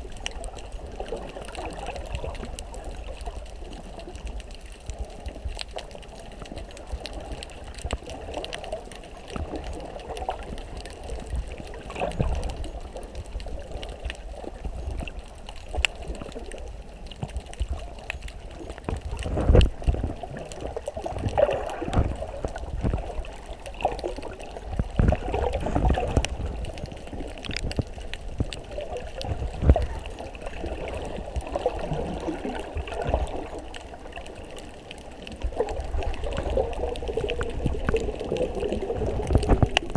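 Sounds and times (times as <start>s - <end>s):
low water surges: 0.0s - 39.9s
muffled underwater swirling: 0.0s - 39.9s.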